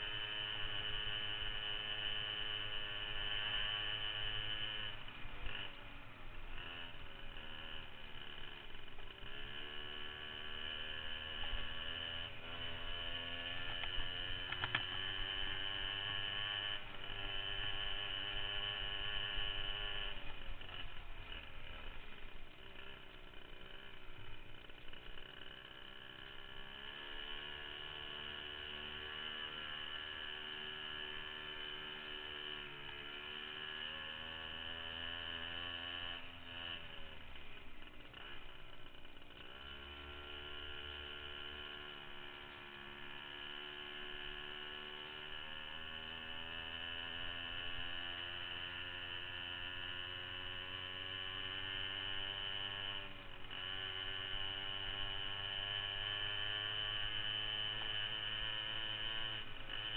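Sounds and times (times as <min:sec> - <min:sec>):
minibike engine running: 0:00.0 - 0:59.9.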